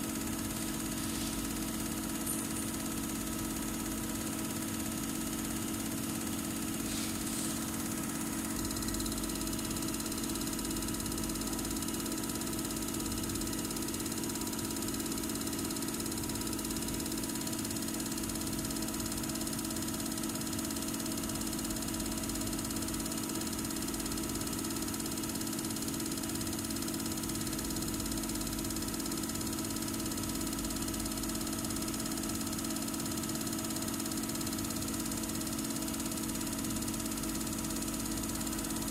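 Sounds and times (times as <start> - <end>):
machine hum with steady tones: 0.0 - 38.9.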